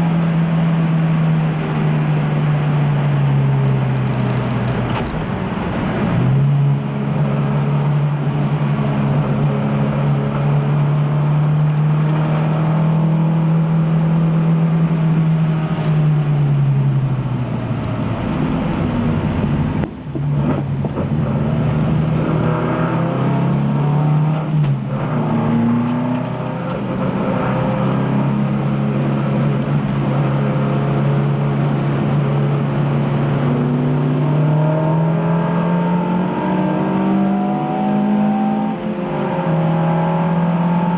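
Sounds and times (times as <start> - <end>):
car engine at high revs: 0.0 - 40.9.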